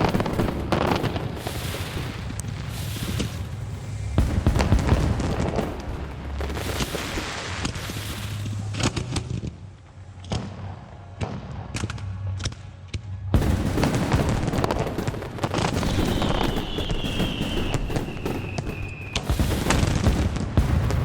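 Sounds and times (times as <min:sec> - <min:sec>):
fireworks booming and crackling: 0:00.0 - 0:12.0, 0:13.3 - 0:21.0.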